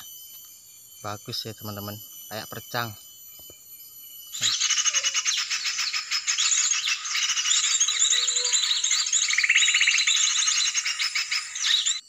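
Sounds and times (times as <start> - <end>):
small birds chirping and trilling: 0.0 - 12.0.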